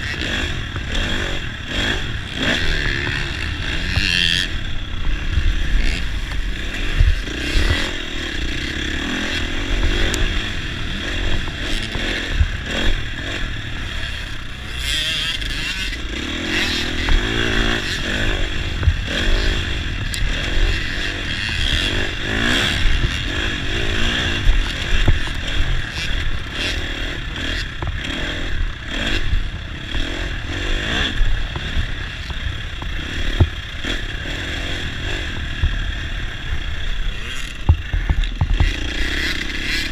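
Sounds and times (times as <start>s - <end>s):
bike rattling over bumps: 0.0s - 39.9s
dirt bike engine revving: 0.0s - 39.9s.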